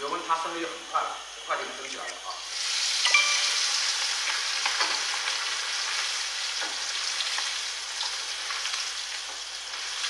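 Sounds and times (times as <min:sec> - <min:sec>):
deep-frying sizzle in hot oil: 0:00.0 - 0:10.0.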